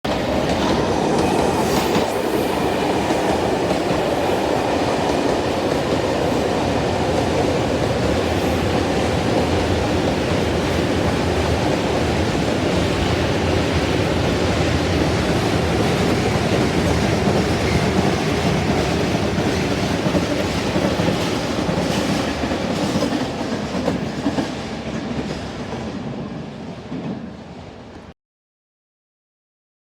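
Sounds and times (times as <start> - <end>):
train wheels rumbling on rail: 0.1 - 28.1.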